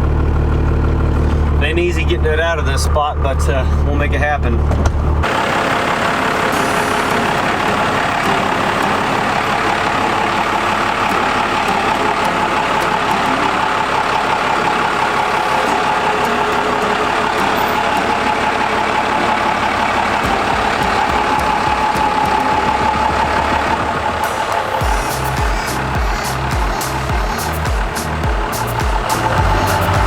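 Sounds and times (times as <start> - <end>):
diesel engine idling: 0.0 - 30.0
turbo whine: 0.0 - 30.0.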